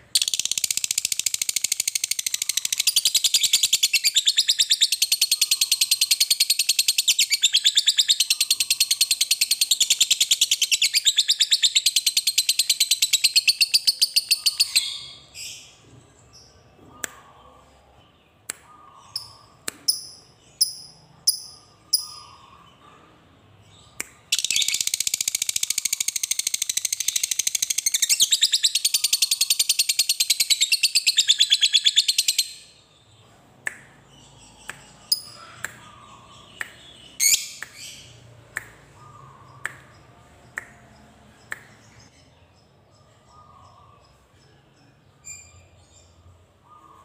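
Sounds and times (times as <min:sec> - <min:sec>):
lovebird chirping and chattering: 0:00.0 - 0:17.3, 0:18.6 - 0:22.9, 0:23.7 - 0:33.2, 0:33.9 - 0:44.4.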